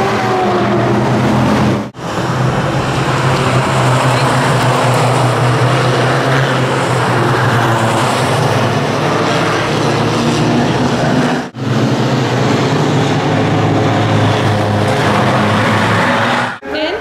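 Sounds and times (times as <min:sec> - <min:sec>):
race car engines at speed: 0:00.0 - 0:17.0
road noise: 0:00.0 - 0:17.0.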